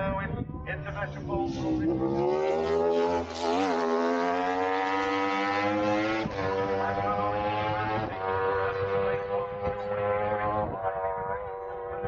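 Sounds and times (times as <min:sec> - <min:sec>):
motorbike engine accelerating: 0:00.6 - 0:12.0.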